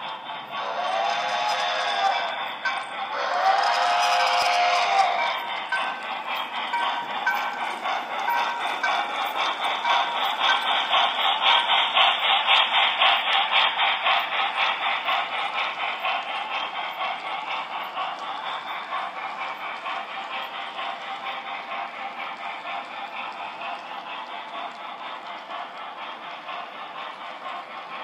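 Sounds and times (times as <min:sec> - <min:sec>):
model steam locomotive chuffing: 0:00.0 - 0:28.0
model train clattering on track: 0:00.0 - 0:28.0.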